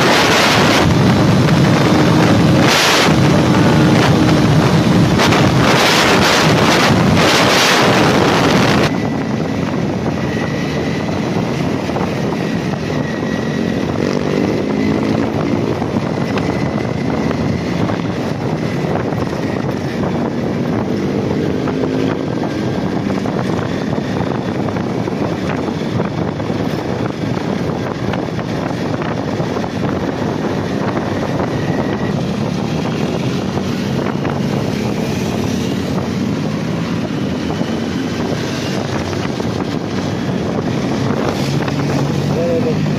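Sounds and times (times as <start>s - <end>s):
motorcycle engine accelerating: 0.0s - 42.9s
road noise: 0.0s - 42.9s
wind rush on microphone: 0.0s - 42.9s.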